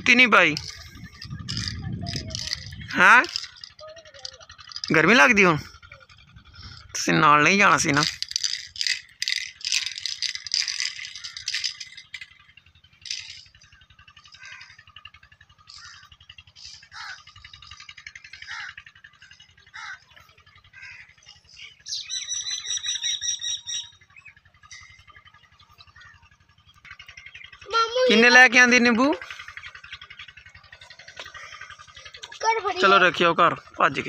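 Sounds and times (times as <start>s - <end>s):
rattling noise: 0.0s - 21.6s, 24.4s - 34.0s
birds chirping: 0.0s - 34.0s.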